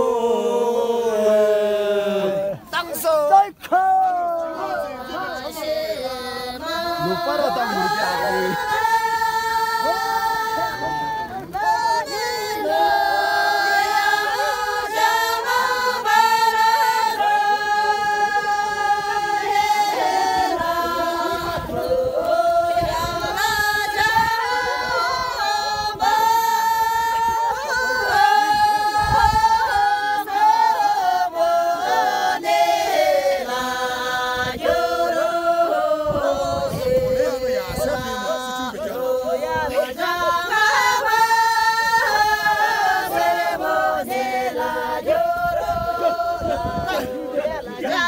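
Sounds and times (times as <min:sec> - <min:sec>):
women singing together: 0:00.0 - 0:02.7, 0:04.5 - 0:48.0.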